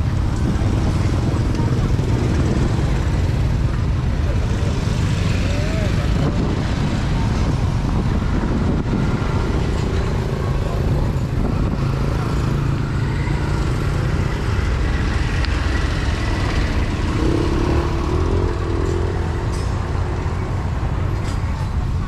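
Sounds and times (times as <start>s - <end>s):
busy street din: 0.0s - 22.0s
passing vehicle engines: 0.0s - 22.0s.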